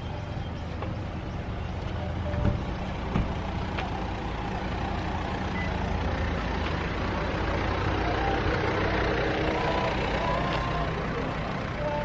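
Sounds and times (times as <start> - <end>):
road noise: 0.0 - 12.0
van engine running: 0.0 - 12.0.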